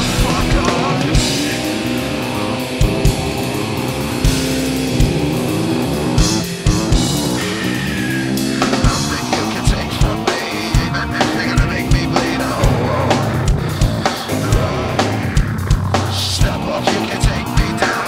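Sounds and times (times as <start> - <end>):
drum kit: 0.0 - 18.0
electric guitar riffing: 0.0 - 18.0.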